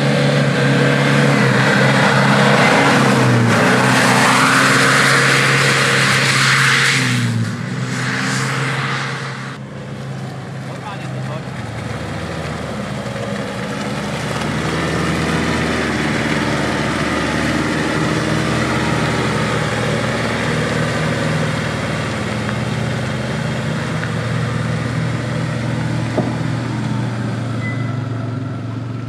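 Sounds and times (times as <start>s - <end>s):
engine running at low revs: 0.0s - 29.0s.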